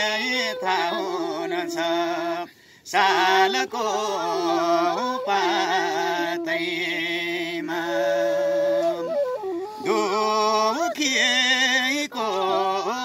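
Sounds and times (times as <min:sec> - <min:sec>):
man and woman singing: 0:00.0 - 0:09.1, 0:09.8 - 0:13.0
bamboo flute long notes: 0:00.0 - 0:13.0.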